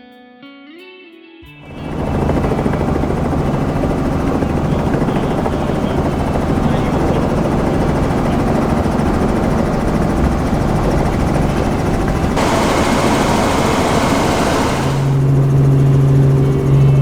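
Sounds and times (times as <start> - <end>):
steady low hum: 1.6 - 17.0
vehicle engine and cabin noise: 1.6 - 17.0.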